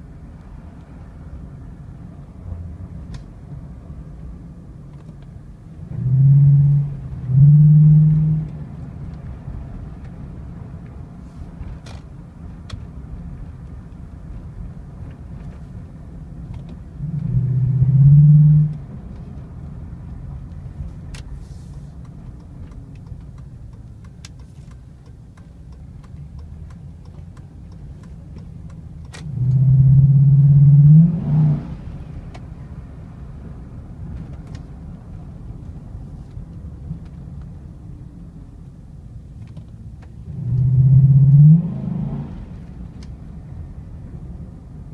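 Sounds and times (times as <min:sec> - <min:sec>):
truck engine rumbling and accelerating: 0:00.0 - 0:44.9.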